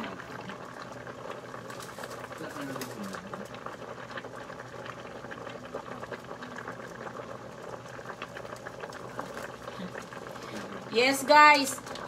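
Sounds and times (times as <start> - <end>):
pot simmering with bubbles popping: 0.0 - 12.0.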